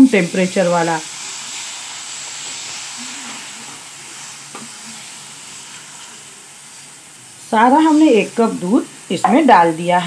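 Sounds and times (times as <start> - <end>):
milk sizzling in a hot pan: 0.0 - 10.0.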